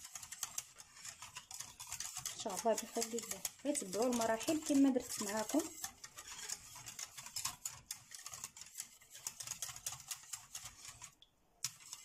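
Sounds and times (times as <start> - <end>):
whisk beating in metal saucepan: 0.0 - 12.0.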